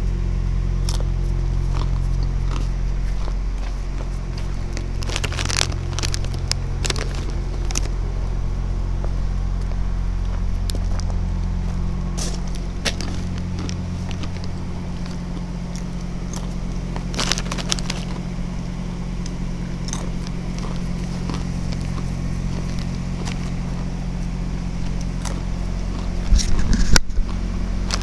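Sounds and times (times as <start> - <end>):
steady low hum: 0.0 - 28.0
footsteps on gravel: 0.8 - 18.4, 19.8 - 28.0.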